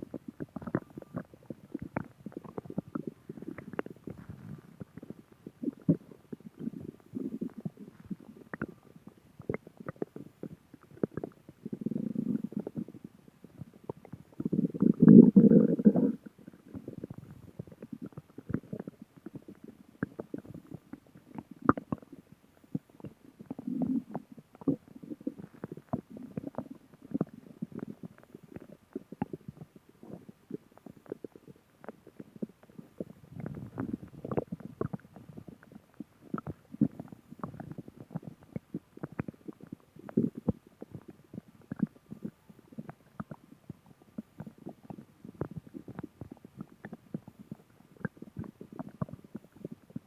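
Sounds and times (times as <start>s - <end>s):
stomach growling: 0.0s - 50.0s.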